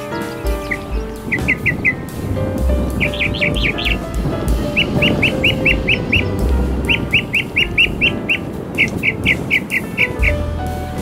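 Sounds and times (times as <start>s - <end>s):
mockingbird chirping: 0.0s - 10.4s
low steady rumble: 0.5s - 11.0s.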